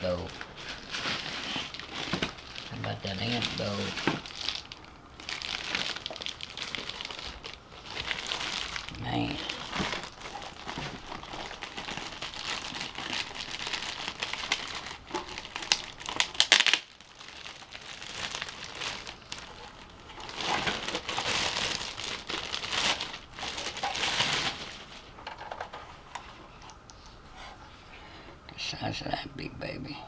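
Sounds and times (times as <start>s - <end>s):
packaging crinkling: 0.0s - 27.2s.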